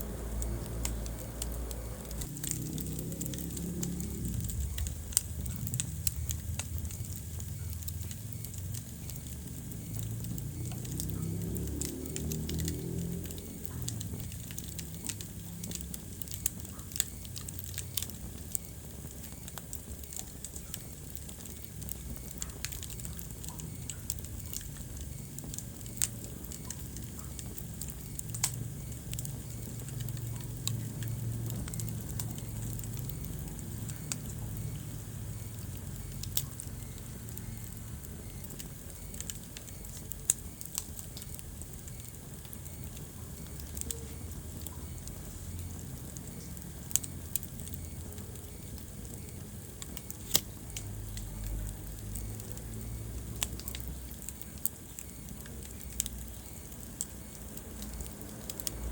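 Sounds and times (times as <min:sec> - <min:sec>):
low rumble of flames: 0:00.0 - 0:58.9
sharp fire pops: 0:00.0 - 0:58.9
wood fire crackling: 0:00.0 - 0:58.9.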